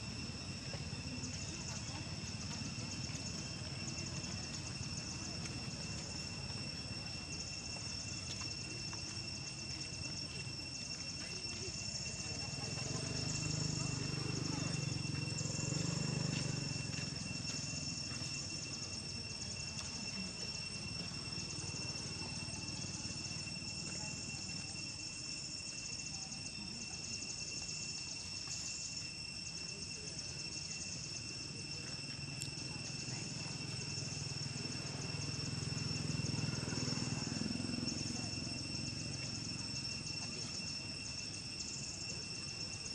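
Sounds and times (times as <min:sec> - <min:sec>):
insect pulsing buzz: 0:00.0 - 0:42.9
insects droning: 0:00.0 - 0:42.9.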